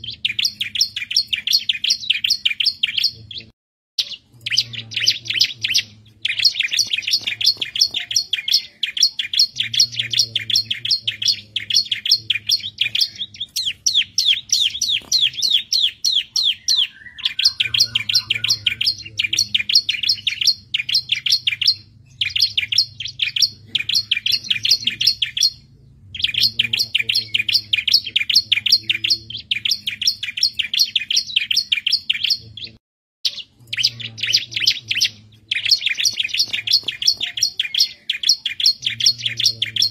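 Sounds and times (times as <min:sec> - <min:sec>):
bird fast high chirping: 0:00.0 - 0:03.2, 0:04.0 - 0:39.9.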